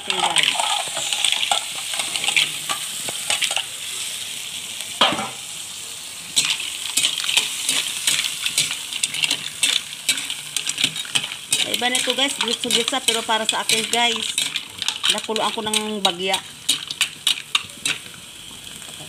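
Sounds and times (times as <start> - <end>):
metal ladle scraping a pan: 0.0 - 3.6, 6.4 - 18.1
mussels sizzling in a wok: 0.0 - 19.0.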